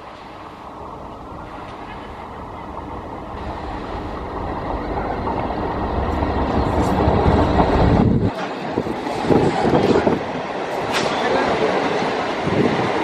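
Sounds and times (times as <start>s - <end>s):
electric train running into station: 0.0s - 13.0s.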